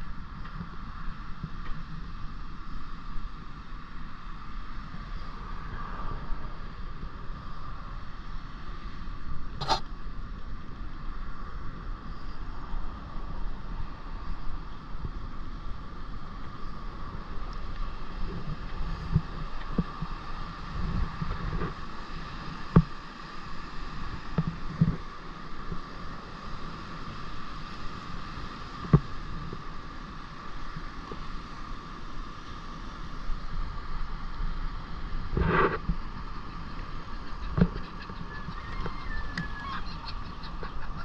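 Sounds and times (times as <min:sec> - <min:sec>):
wind on microphone: 0:00.0 - 0:41.0.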